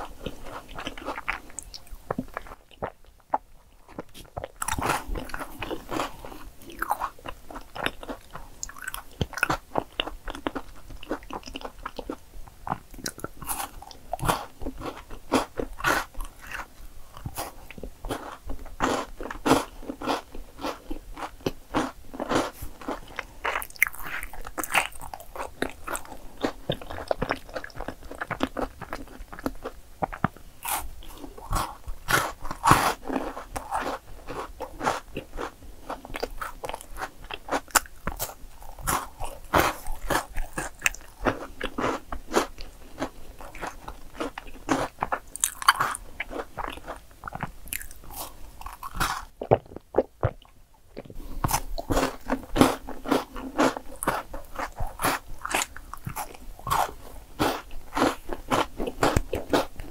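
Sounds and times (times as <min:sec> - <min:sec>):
chocolate bar crunching: 0:03.9 - 0:50.4, 0:51.0 - 0:59.9.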